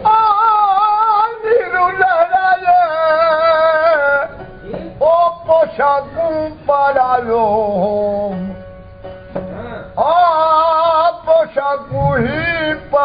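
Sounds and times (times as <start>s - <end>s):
man singing folk song: 0.0s - 8.6s, 9.6s - 13.0s
plucked string instrument: 0.0s - 13.0s.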